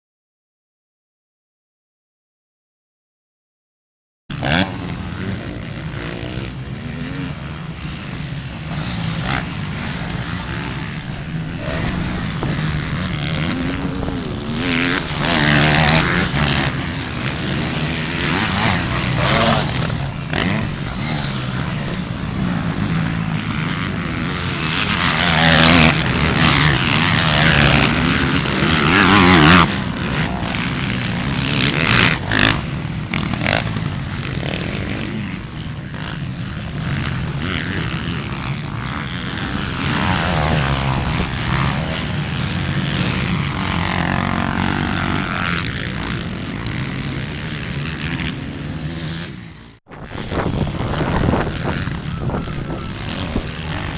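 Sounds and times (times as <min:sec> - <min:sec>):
engine running steadily: 0:04.4 - 0:53.9.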